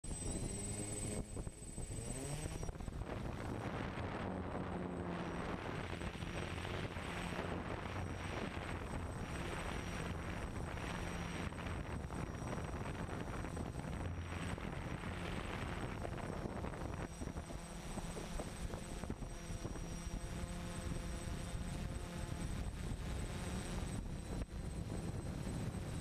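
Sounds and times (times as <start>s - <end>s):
drone propellers whirring: 0.0s - 26.0s.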